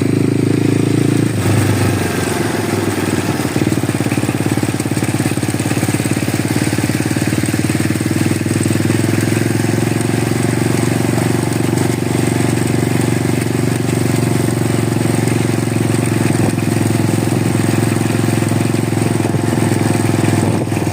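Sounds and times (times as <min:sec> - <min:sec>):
small two-stroke engine running: 0:00.0 - 0:20.9.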